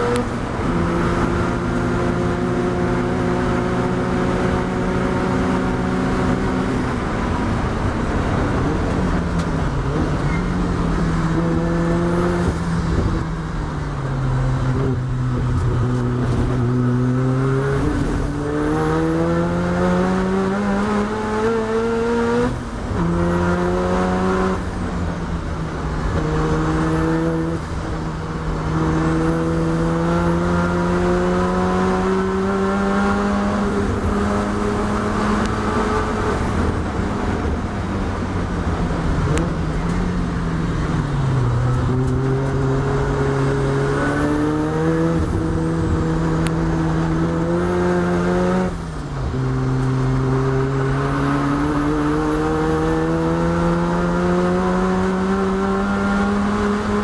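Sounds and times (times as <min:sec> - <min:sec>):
rotary race car engine revving: 0:00.0 - 0:57.0.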